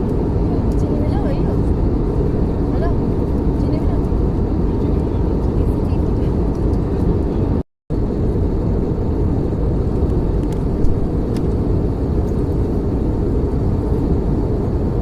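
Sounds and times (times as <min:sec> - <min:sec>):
airliner cabin noise in flight: 0:00.0 - 0:15.0.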